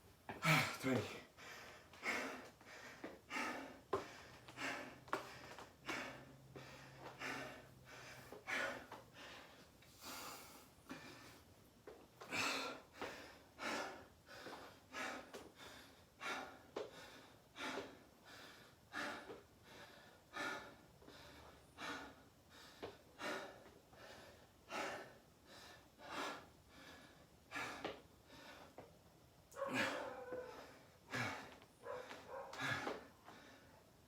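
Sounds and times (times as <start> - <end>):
person breathing hard: 0.4 - 11.5, 12.2 - 34.0.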